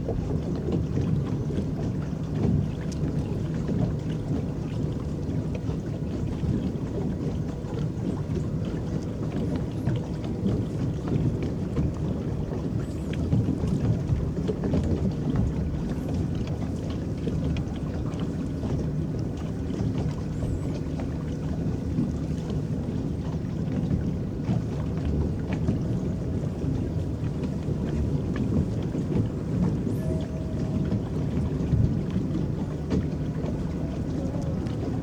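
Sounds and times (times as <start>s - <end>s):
water lapping against boat hull: 0.0s - 35.0s.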